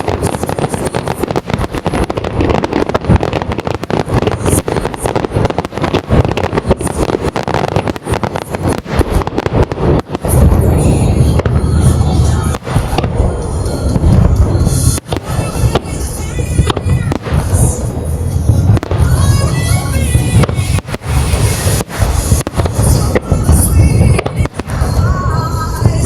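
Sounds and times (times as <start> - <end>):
firework crackling: 0.0 - 26.0
firework shells booming: 0.0 - 26.0
music over loudspeakers: 0.1 - 26.0.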